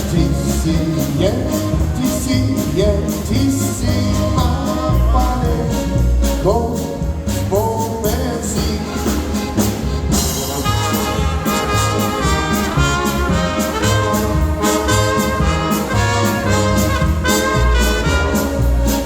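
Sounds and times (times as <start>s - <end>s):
brass melody: 0.0s - 19.0s
polka band playing: 0.0s - 19.0s
steady bass beat: 0.0s - 19.0s.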